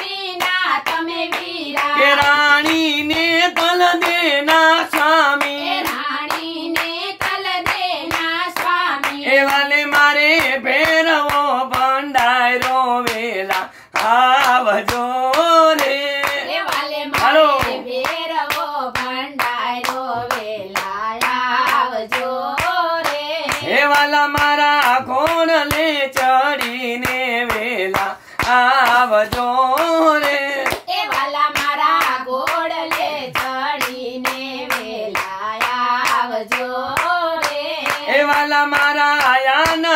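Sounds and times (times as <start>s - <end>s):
group singing devotional song: 0.0s - 39.9s
hands clapping to a beat: 0.0s - 39.9s.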